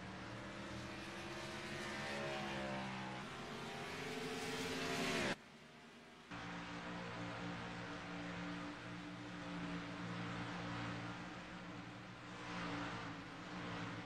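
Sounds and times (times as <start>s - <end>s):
race car engine accelerating: 0.2s - 5.4s, 6.3s - 14.0s.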